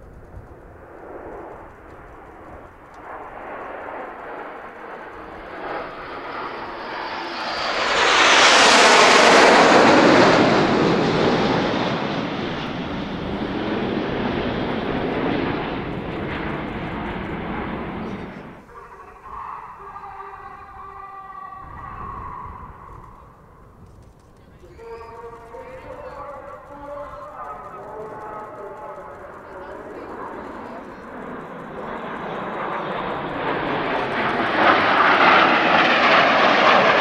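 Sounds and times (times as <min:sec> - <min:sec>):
jets passing overhead: 0:00.0 - 0:37.0.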